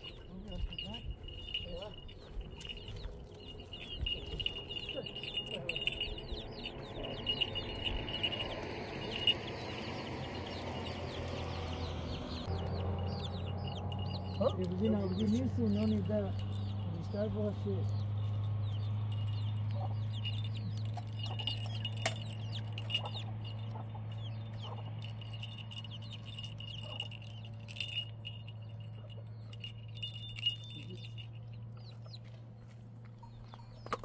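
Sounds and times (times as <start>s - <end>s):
bird chirps: 0.0s - 34.0s.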